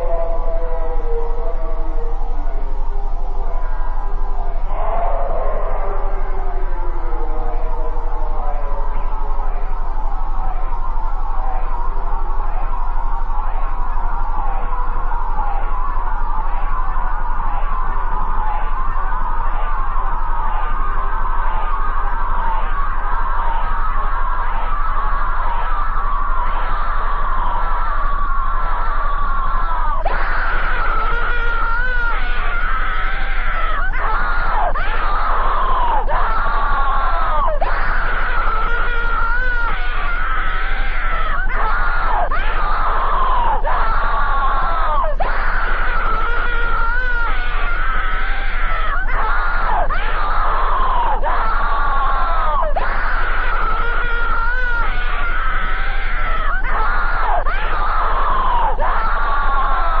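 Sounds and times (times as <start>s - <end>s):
looped screaming: 0.0s - 60.0s.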